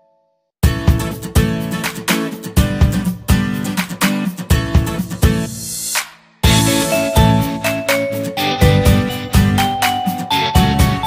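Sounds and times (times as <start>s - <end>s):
background music with steady beat: 0.6s - 11.0s.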